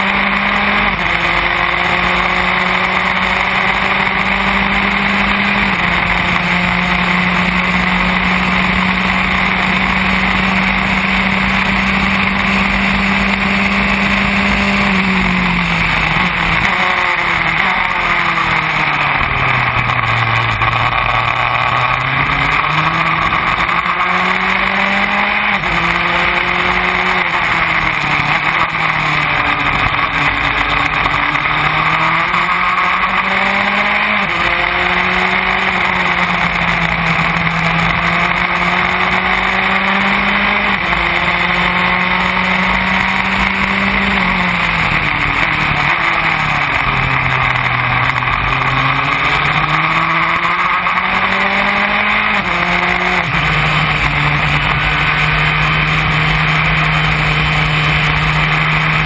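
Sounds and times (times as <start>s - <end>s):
race car engine revving: 0.0s - 59.0s
wind and road noise: 0.0s - 59.0s.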